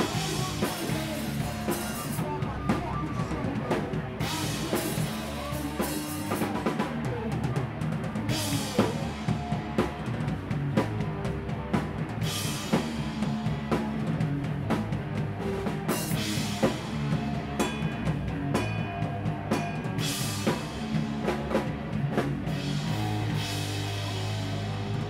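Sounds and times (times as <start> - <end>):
bass guitar: 0.0 - 25.0
electric guitar: 0.0 - 25.0.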